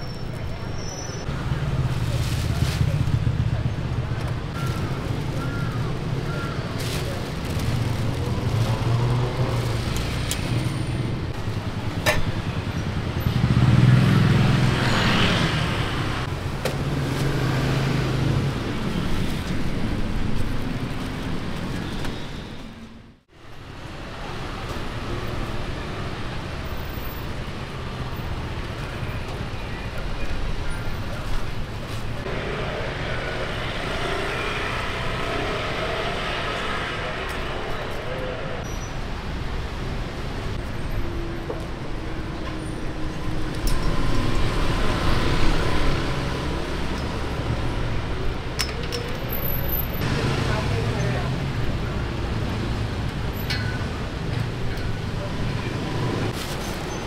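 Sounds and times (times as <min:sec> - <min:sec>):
traffic rumble of motorbikes and cars: 0:00.0 - 0:57.0
vehicle engines running: 0:00.0 - 0:57.0.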